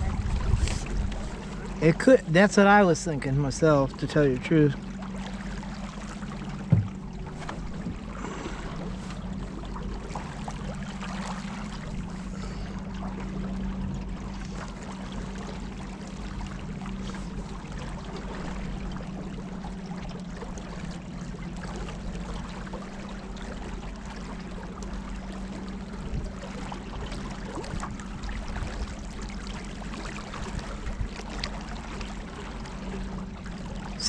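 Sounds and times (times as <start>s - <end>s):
motorboat engine humming: 0.0s - 34.0s
water splashing along hull: 0.0s - 34.0s.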